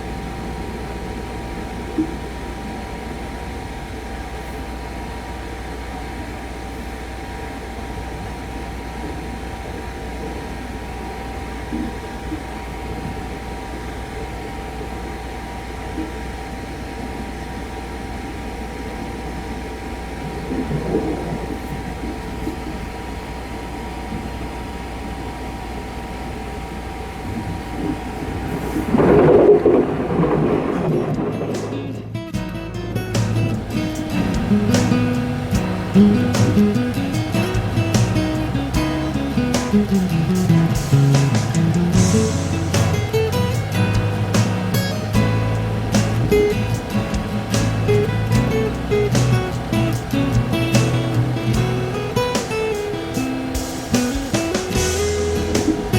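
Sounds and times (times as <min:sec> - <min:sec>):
train hums: 0:00.0 - 0:55.9
train running rumble: 0:00.0 - 0:55.9.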